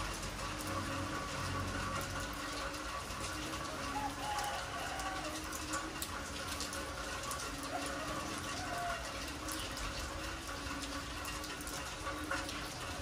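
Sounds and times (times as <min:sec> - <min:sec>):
heavy rain on concrete: 0:00.0 - 0:13.0.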